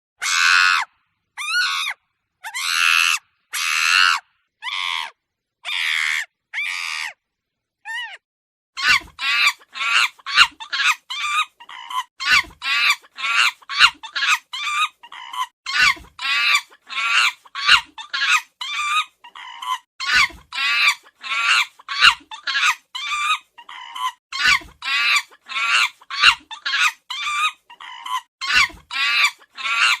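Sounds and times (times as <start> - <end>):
monkey screeching and yelping: 0.2 - 7.2, 7.8 - 8.2, 8.8 - 30.0.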